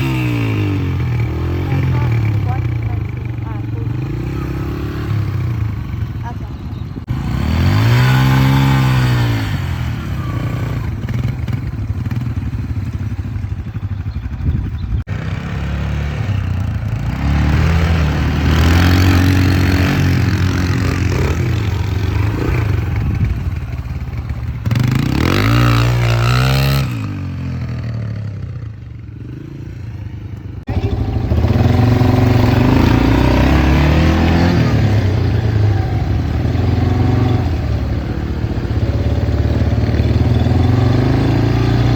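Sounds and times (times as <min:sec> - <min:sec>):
engine running and revving: 0:00.0 - 0:41.9.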